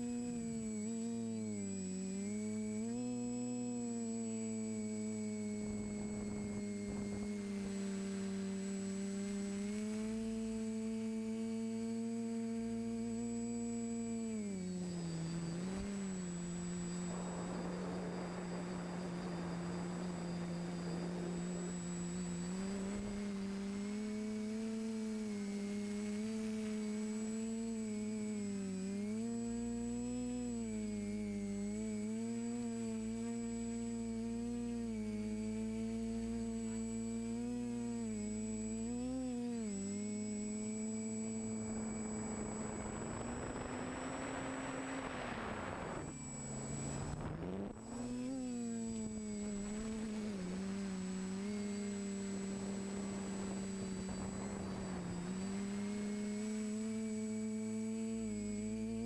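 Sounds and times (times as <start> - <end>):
quadcopter motors humming: 0.0 - 59.0.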